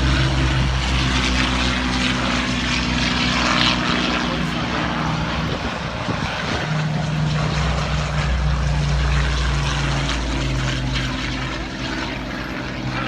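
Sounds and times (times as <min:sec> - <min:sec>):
propeller aircraft engines running: 0:00.0 - 0:13.0.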